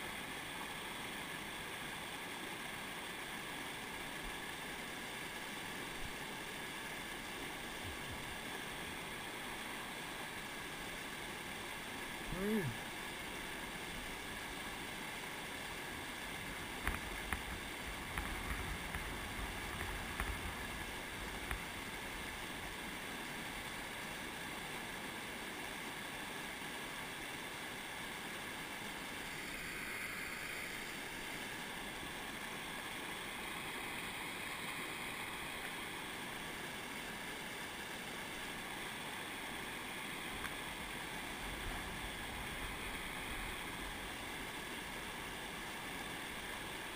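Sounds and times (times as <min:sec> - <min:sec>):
white water rushing over rocks: 0:00.0 - 0:46.9.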